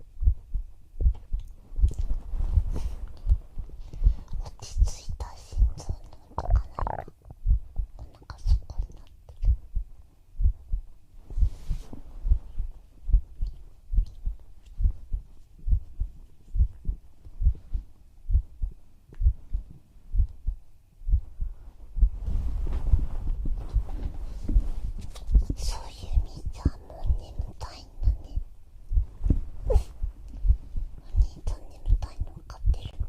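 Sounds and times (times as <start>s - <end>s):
heartbeat thumping: 0.0s - 33.0s
soft breathy noise: 0.3s - 33.0s.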